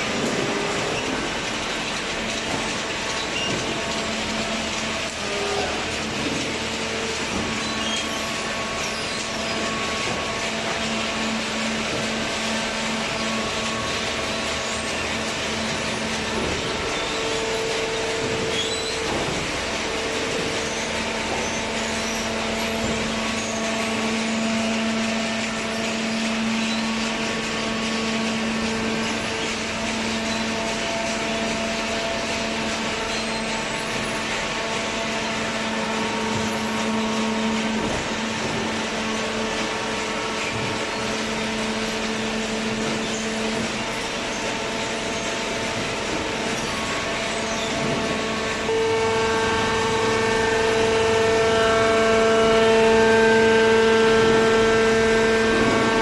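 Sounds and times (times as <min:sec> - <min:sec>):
cardboard baler humming: 0:00.0 - 0:56.0.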